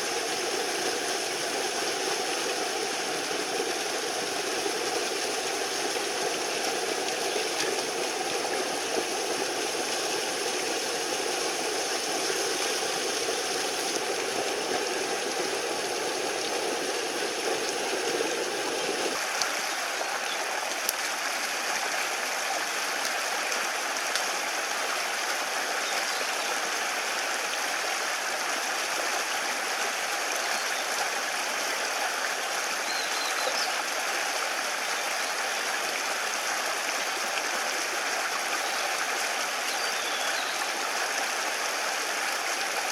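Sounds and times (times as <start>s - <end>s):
mountain stream flowing: 0.0s - 42.9s.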